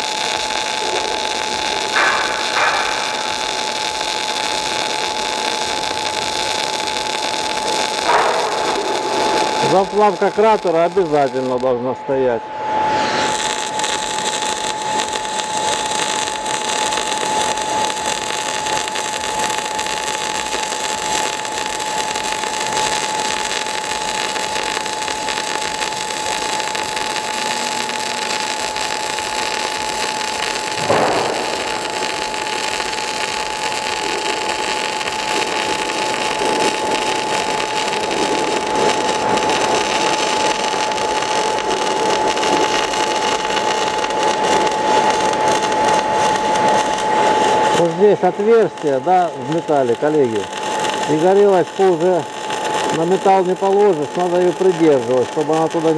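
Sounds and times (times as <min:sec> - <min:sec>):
welding pop: 0:00.0 - 0:11.5, 0:13.2 - 0:55.9
welding arc hissing: 0:00.0 - 0:12.3, 0:12.9 - 0:55.9
thin steady whine: 0:00.0 - 0:55.9.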